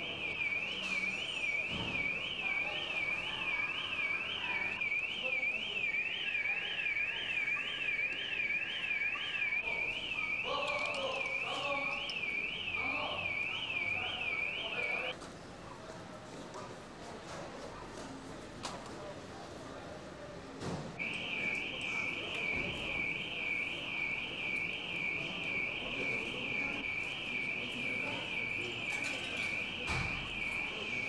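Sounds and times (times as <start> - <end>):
car alarm sweeping tone: 0.0 - 15.2, 21.0 - 31.0.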